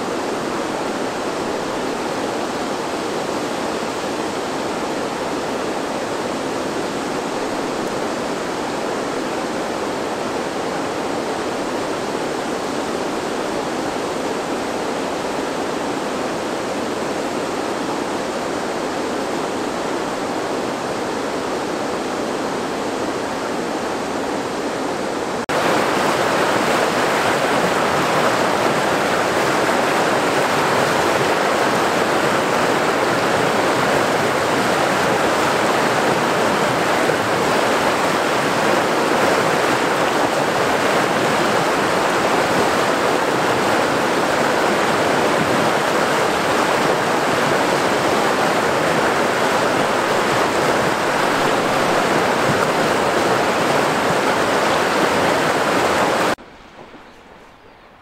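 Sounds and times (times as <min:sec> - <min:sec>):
water rushing over rocks: 0:00.0 - 0:21.8, 0:22.4 - 0:56.5.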